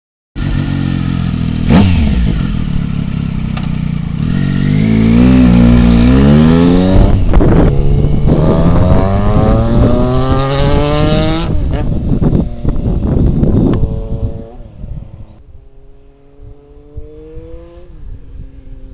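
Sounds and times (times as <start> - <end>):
motorcycle engine revving: 0.4 - 15.4, 16.0 - 18.2.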